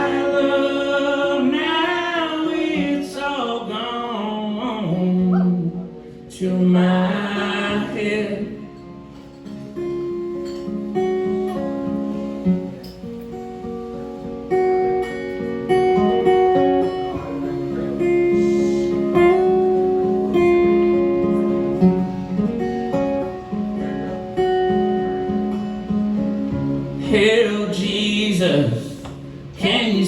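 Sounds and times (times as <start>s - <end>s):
strummed acoustic guitar: 0.0s - 30.0s.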